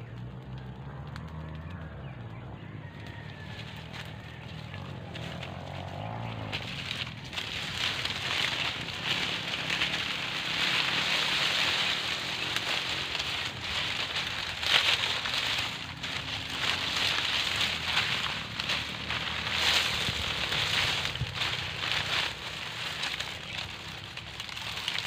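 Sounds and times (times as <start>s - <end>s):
fire crackling and hissing: 0.0s - 25.0s.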